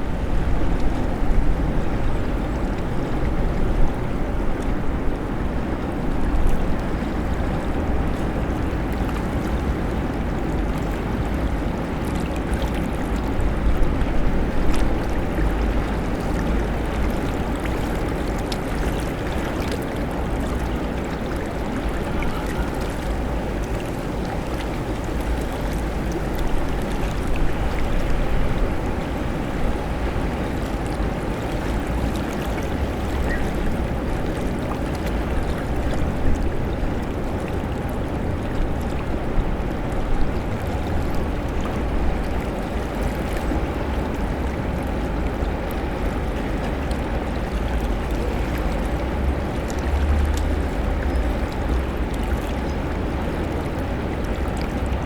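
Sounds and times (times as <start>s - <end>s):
steady rushing wash: 0.0s - 55.0s.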